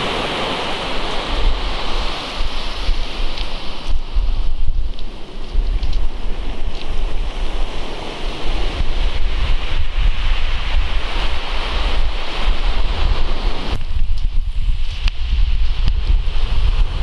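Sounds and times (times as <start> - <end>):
surf washing over shingle: 0.0 - 17.0
wind buffeting microphone: 0.0 - 17.0.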